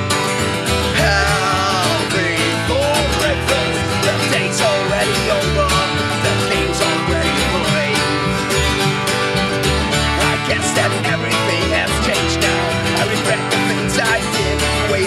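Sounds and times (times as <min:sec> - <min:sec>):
mandolin: 0:00.0 - 0:15.0
strummed acoustic guitar: 0:00.0 - 0:15.0
upright double bass: 0:00.0 - 0:15.0
man singing: 0:00.9 - 0:09.0, 0:10.0 - 0:15.0.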